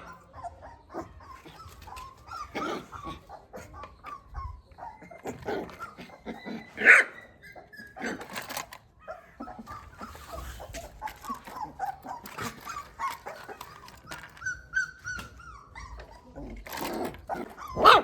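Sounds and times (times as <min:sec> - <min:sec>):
puppy yapping: 0:00.0 - 0:18.0.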